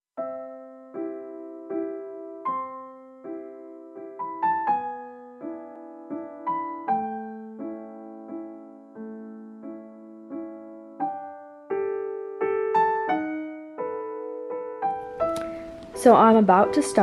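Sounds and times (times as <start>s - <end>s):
soft slow piano melody: 0.2s - 17.0s.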